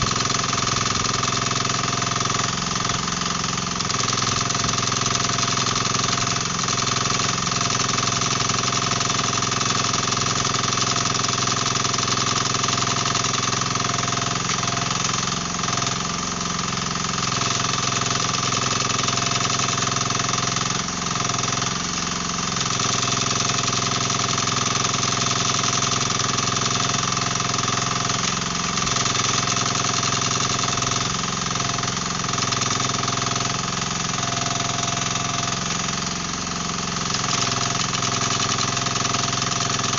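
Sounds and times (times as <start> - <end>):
excavator diesel engine running: 0.0 - 8.6, 11.8 - 39.9.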